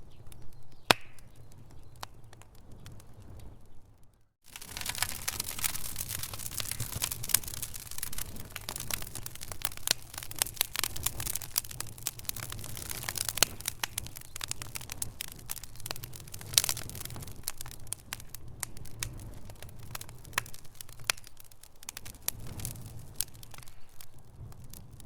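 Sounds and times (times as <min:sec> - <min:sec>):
fire crackling and popping: 0:00.0 - 0:25.0
low fire rumble: 0:00.0 - 0:25.0.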